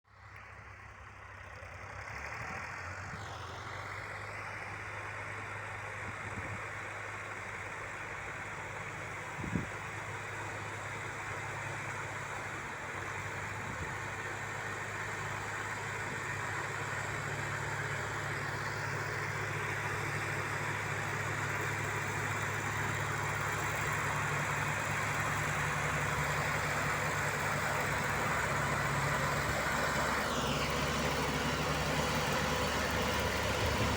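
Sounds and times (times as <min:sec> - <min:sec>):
diesel tractor engines running: 0:00.1 - 0:33.9.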